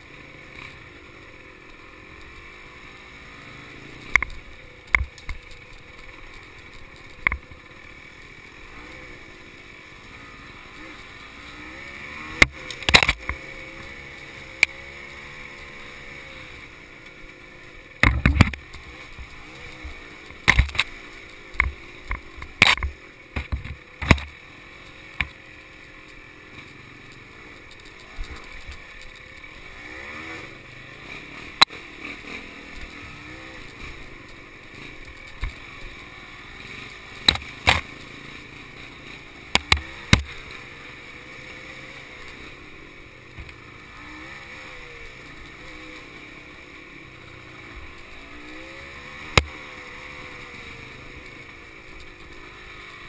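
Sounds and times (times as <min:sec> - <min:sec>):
dirt bike engine at low revs: 0:00.0 - 0:53.0.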